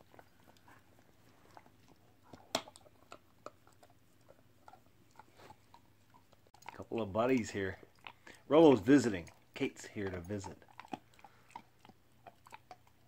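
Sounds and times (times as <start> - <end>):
puppy chewing a hard bone: 0.0 - 13.0.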